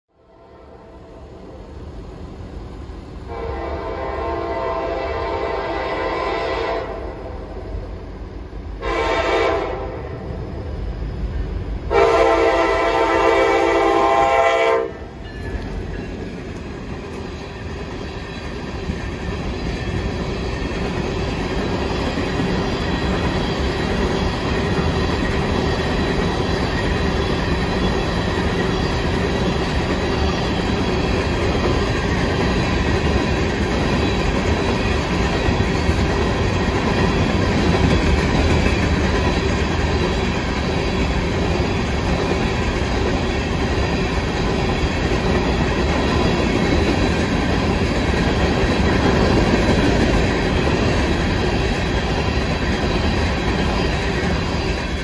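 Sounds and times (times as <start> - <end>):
freight cars rolling on rails: 10.1 - 55.0.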